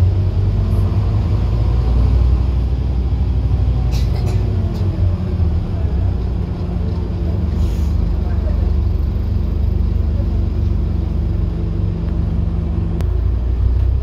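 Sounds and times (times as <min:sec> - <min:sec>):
bus diesel engine rumble: 0:00.0 - 0:14.0.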